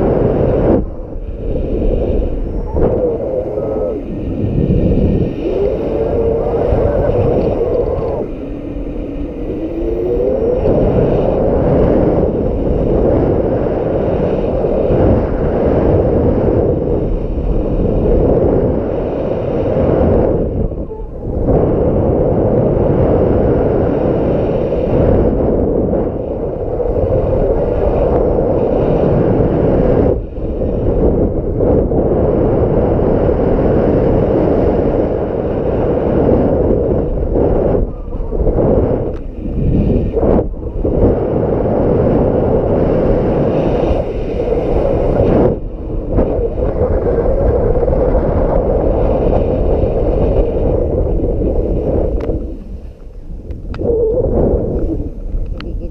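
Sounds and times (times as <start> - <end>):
gusty wind buffeting microphone: 0.0 - 55.9.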